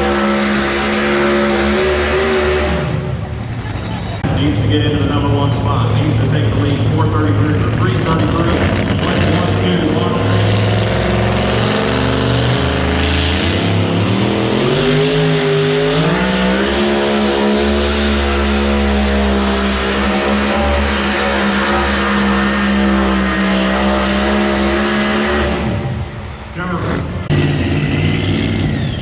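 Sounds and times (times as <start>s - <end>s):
pulling engine running flat out: 0.0s - 29.0s.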